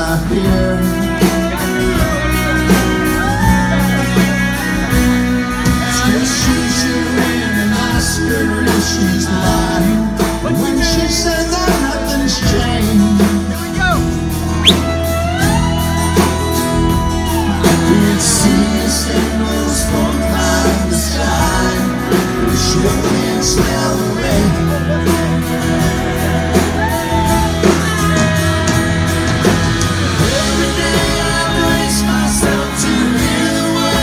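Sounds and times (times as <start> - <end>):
country-rock band playing: 0.0 - 34.0.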